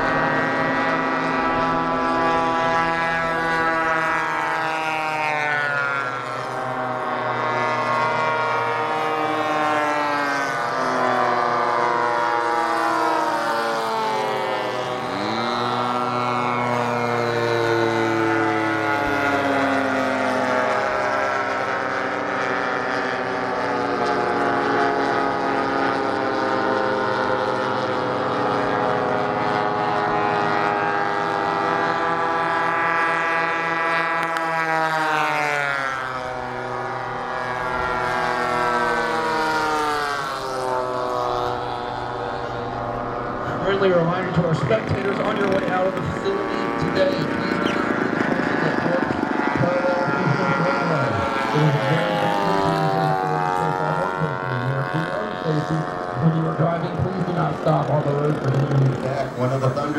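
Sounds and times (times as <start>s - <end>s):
model airplane engines flying past: 0.0s - 59.9s.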